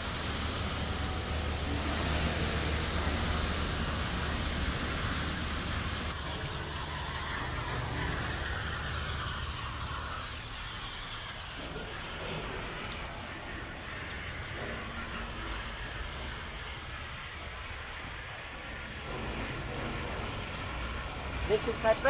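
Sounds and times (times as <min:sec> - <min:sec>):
rushing hiss: 0:00.0 - 0:22.0.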